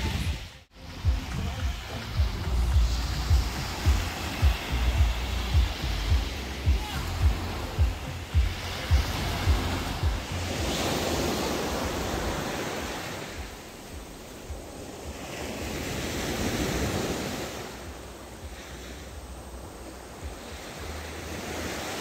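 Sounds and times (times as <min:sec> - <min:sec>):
ocean waves on a beach: 0:00.0 - 0:22.0
wind buffeting microphone: 0:00.0 - 0:22.0.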